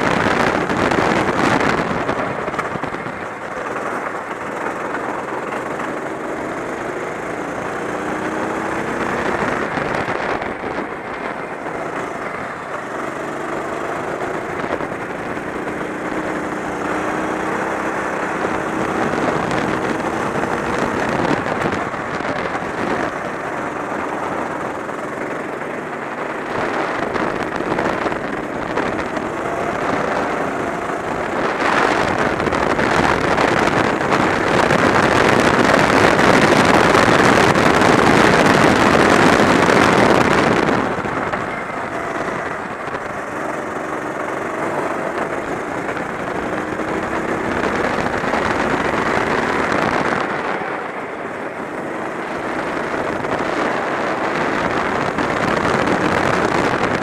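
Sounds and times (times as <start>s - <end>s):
kart engine running hard: 0.0s - 57.0s.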